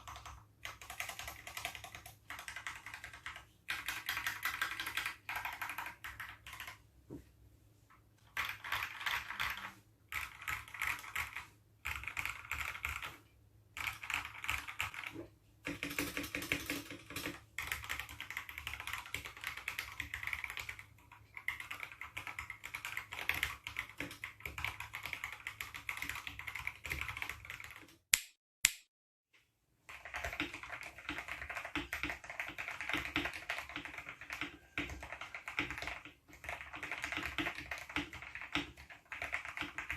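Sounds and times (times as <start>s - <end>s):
mechanical keyboard typing: 0.0s - 6.8s, 8.3s - 28.0s, 29.9s - 39.9s.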